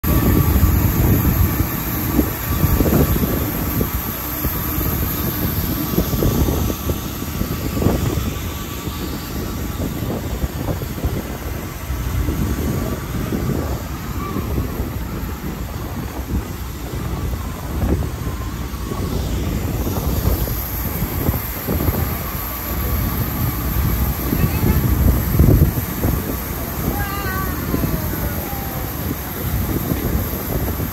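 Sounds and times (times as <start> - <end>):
boat engine drone: 0.0 - 30.9
thin steady whine: 0.0 - 30.9
wake rushing along hull: 0.0 - 30.9
wind buffeting microphone: 0.0 - 30.9.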